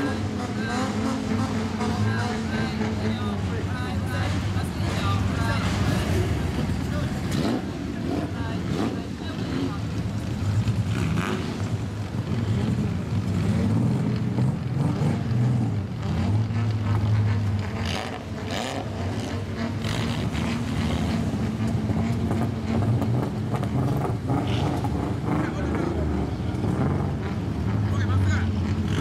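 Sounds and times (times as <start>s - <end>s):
car engine rumbling: 0.0s - 29.0s.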